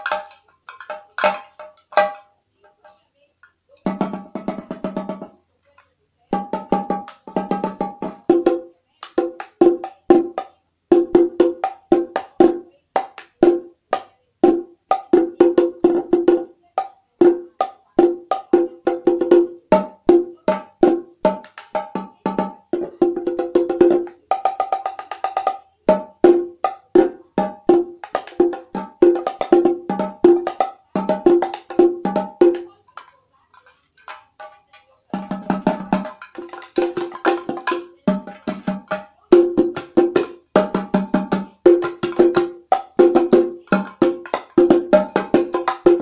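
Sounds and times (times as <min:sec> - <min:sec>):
pitched wooden percussion: 0:00.0 - 0:46.0.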